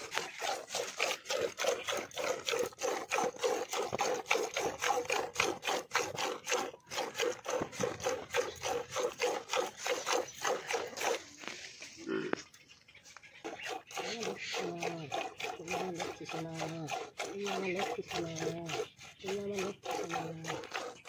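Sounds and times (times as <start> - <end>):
milk squirting into a bucket: 0.0 - 12.6, 13.4 - 21.0.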